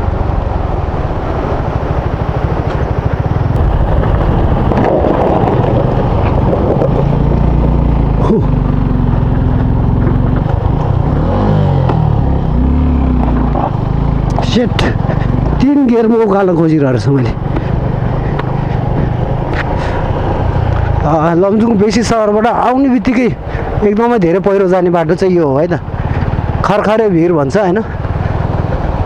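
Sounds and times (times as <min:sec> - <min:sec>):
motorcycle engine revving: 0:00.0 - 0:29.0
wind and road noise: 0:00.0 - 0:29.0.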